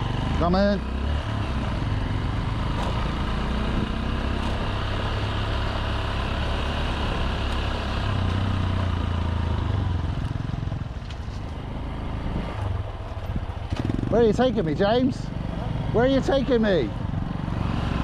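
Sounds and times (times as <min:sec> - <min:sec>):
motorbike engine running: 0:00.0 - 0:18.0
wind and road noise: 0:00.0 - 0:18.0.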